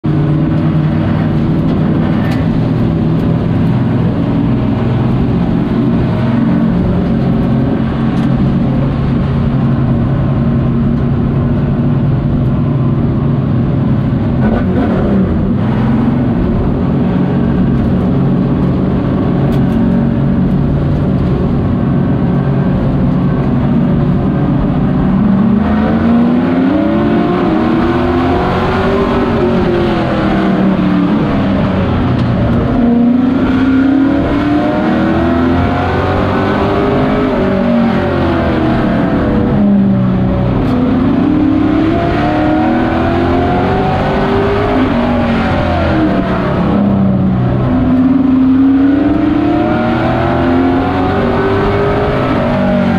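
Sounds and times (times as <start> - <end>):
race truck engine from inside cab: 0.0 - 52.9.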